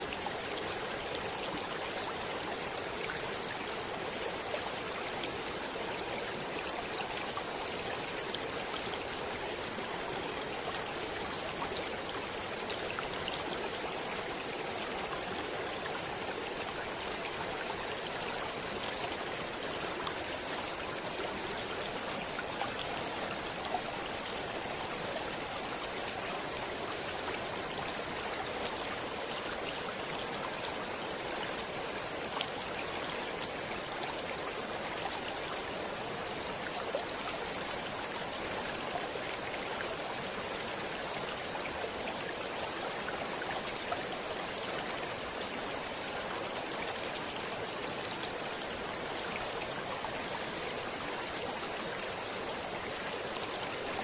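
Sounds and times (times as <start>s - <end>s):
stream water rushing and babbling: 0.0s - 54.0s.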